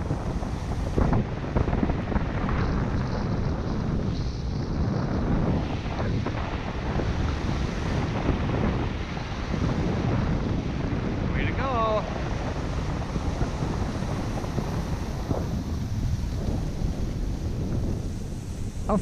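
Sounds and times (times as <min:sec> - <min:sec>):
skis sliding in snow: 0:00.0 - 0:19.0
wind buffeting microphone: 0:00.0 - 0:19.0.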